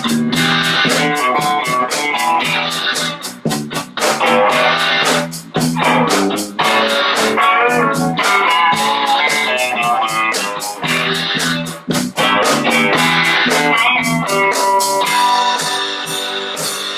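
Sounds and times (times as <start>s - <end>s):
band playing a song: 0.0s - 16.9s
guitar: 0.0s - 16.9s.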